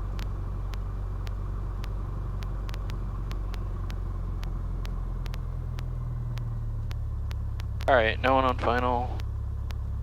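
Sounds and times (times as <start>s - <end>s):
faint clicks: 0.0s - 10.0s.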